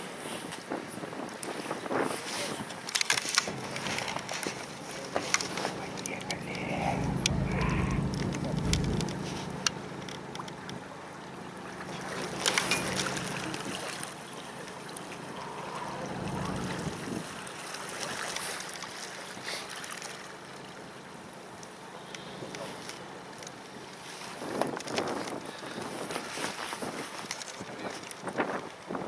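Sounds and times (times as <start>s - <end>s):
wind gusts on microphone: 0.0s - 18.6s, 23.7s - 29.0s
water rushing along hull: 0.0s - 29.0s
low boat engine hum: 2.4s - 27.0s.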